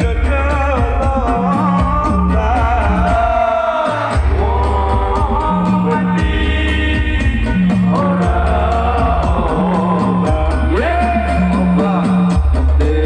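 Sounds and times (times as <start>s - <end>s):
drum beat with deep bass: 0.0s - 13.0s
men singing through pa: 0.0s - 13.0s.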